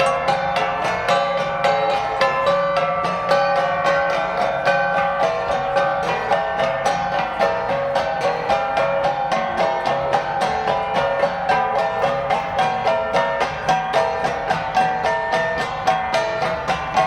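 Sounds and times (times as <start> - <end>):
gong ensemble interlocking rhythm: 0.0 - 17.0.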